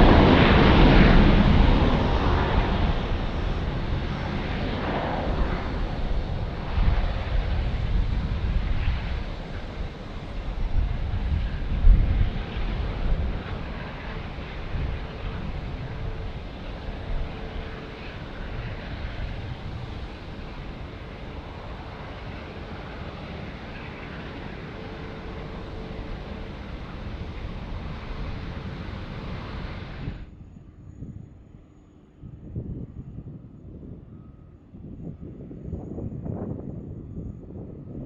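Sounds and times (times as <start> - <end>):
jet airliner engines: 0.0 - 38.0.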